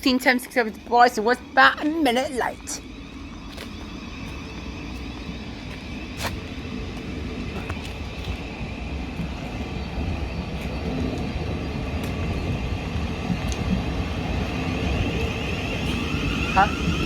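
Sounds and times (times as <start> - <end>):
electric train rumbling: 0.0 - 17.0
faint train whine: 0.0 - 17.0.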